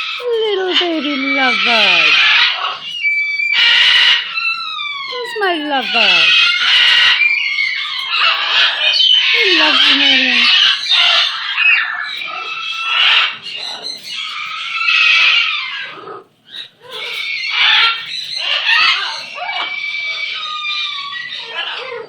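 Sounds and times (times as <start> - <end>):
parrot chattering squeaky calls: 0.0 - 21.9.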